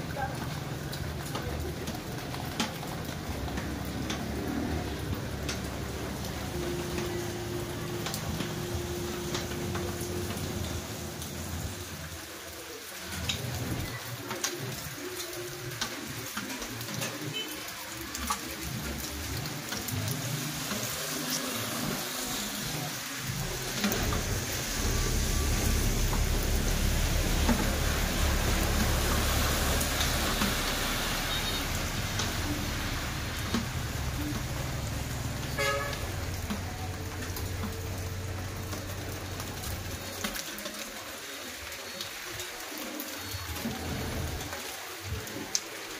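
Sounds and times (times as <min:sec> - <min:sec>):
rain on pavement and leaves: 0:00.0 - 0:45.9.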